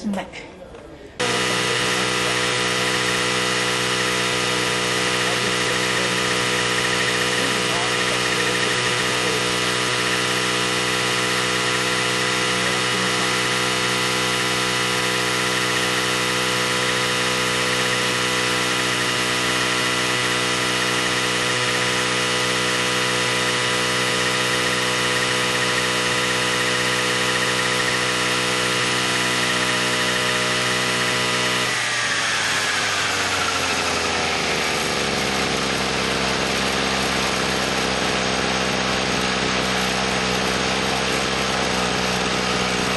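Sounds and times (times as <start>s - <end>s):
small motor running: 1.2s - 42.9s.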